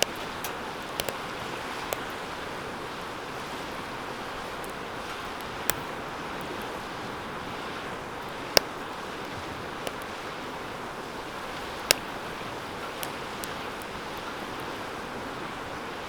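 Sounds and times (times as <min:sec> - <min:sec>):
fire pops and cracks: 0:00.0 - 0:15.5
fire flames hissing: 0:00.0 - 0:16.0.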